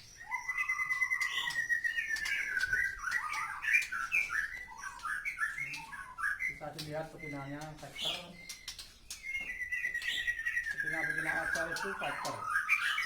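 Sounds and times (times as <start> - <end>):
bird singing whistles: 0.0 - 13.0.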